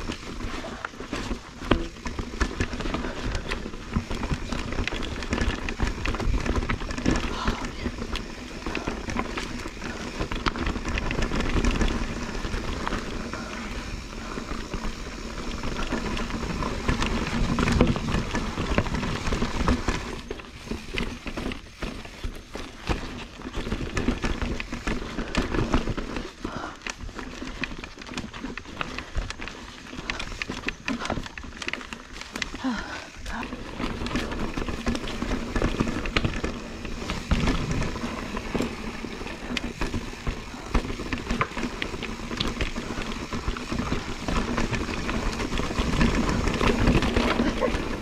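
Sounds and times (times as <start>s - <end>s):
bike knocks and rattles: 0.0s - 48.0s
bike tyres rolling on dirt: 0.0s - 48.0s.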